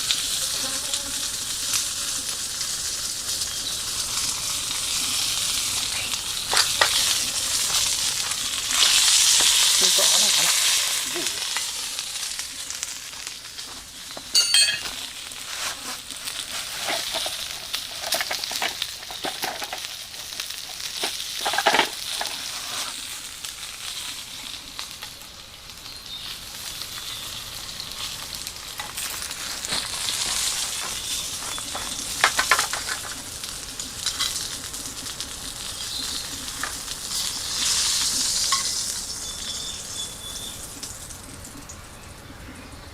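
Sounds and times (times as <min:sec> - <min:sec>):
food sizzling in frying pan: 0:00.0 - 0:42.8.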